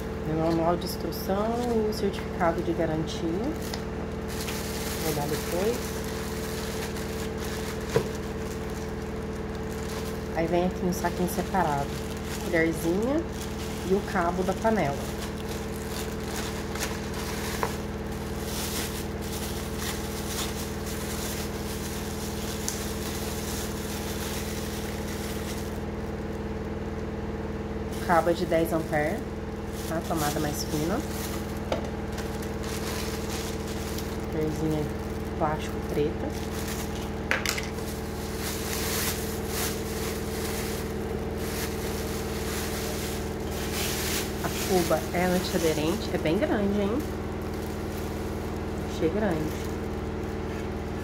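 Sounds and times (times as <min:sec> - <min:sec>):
low machine hum: 0:00.0 - 0:51.0
plastic bag crinkling: 0:00.4 - 0:26.5, 0:27.9 - 0:51.0.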